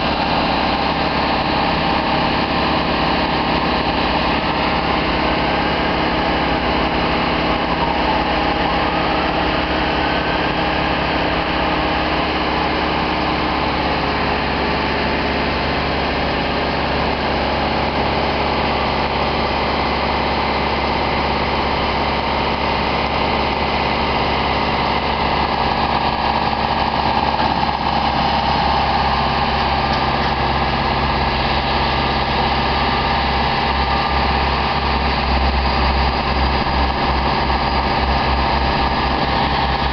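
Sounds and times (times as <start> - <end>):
boom lift engine humming: 0.0 - 39.9.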